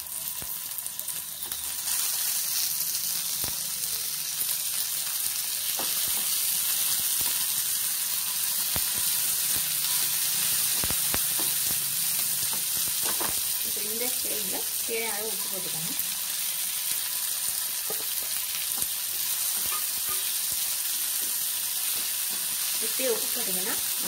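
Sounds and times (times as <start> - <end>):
oil sizzling in a frying pan: 0.0 - 24.0.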